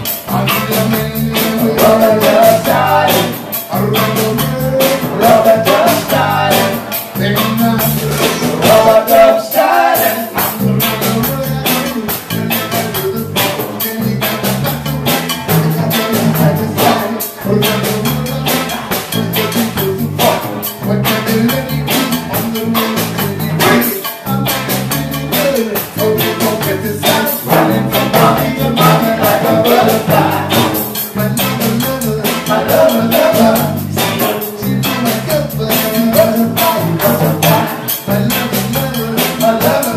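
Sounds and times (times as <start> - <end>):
drum kit: 0.0 - 39.9
guitars: 0.0 - 39.9
keyboards: 0.0 - 39.9
lead vocal singing: 0.0 - 39.9.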